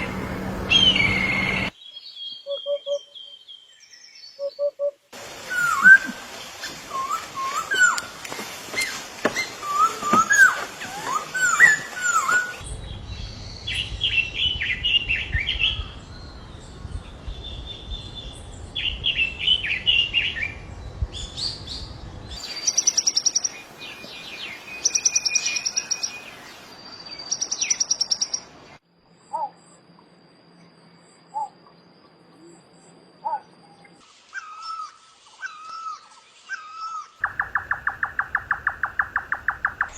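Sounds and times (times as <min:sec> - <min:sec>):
wild birds singing and calling: 0:00.0 - 0:29.8, 0:31.0 - 0:39.9.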